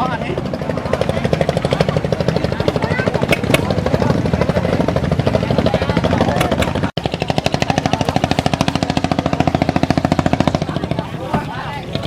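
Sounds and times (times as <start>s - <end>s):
small engine knocking: 0.0s - 12.0s.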